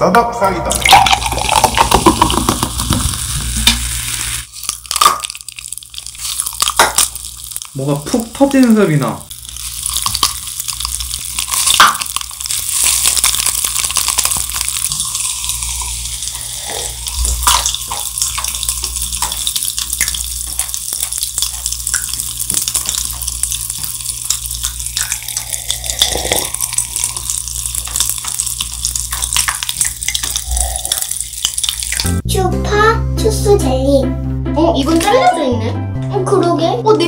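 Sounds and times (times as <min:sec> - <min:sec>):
popping candy fizzing and popping: 0:00.7 - 0:32.2.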